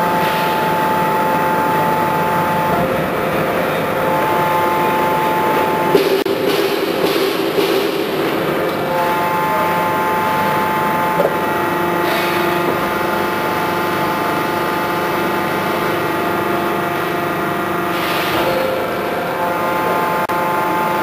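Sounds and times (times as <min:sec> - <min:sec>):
hydraulic pump humming: 0:00.0 - 0:21.0.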